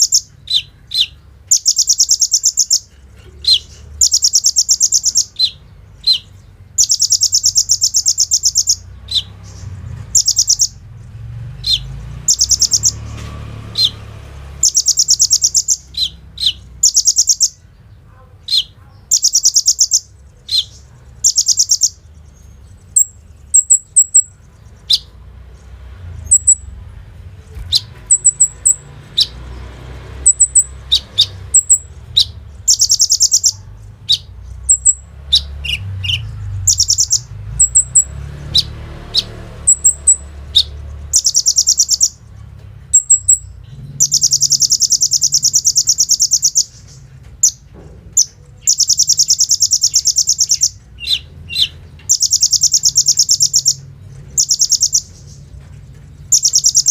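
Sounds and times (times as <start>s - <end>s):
bird singing buzzy trills: 0.0s - 56.9s.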